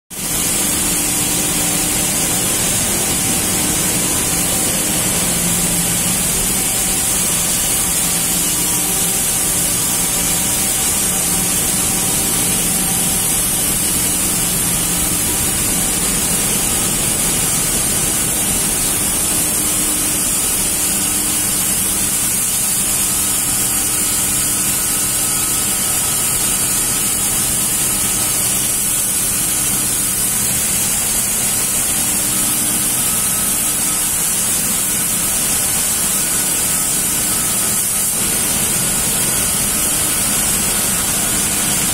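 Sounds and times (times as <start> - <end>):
knitting machines running: 0.1 - 41.9.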